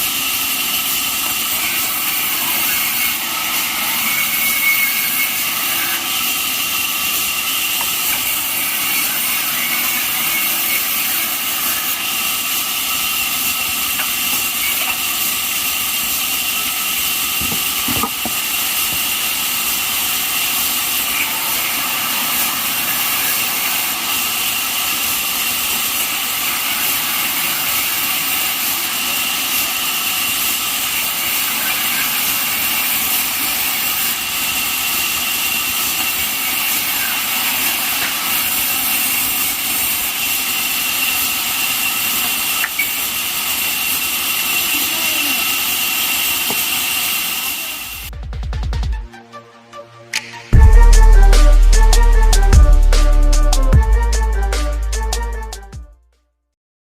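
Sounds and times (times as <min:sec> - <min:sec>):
band sawmill whining: 0:00.0 - 0:55.9.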